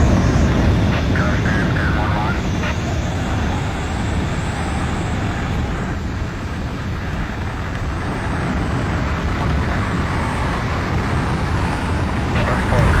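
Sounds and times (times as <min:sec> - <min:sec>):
airplane engine drone in flight: 0:00.0 - 0:13.0.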